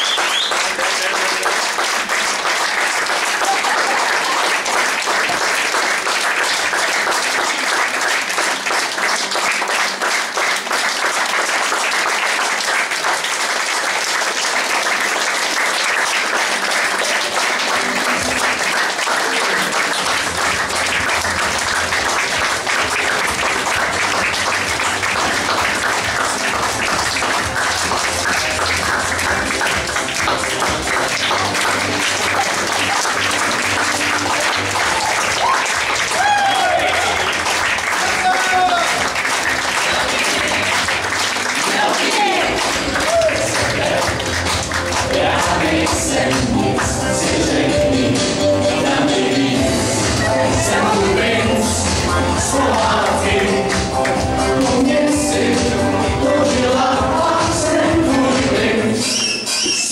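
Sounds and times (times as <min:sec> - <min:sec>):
audience applauding: 0:00.0 - 0:47.8, 0:49.0 - 0:55.2.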